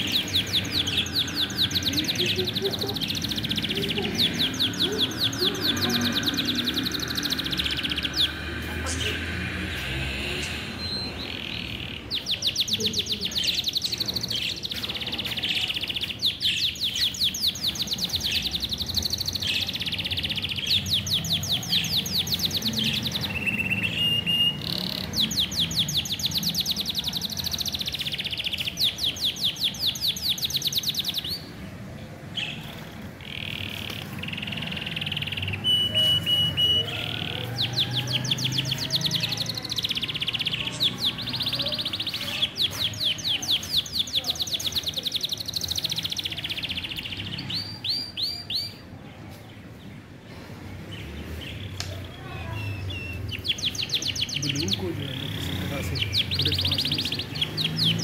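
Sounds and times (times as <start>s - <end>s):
budgerigars chirping in trills: 0.0s - 31.6s, 32.4s - 48.9s, 51.5s - 58.0s.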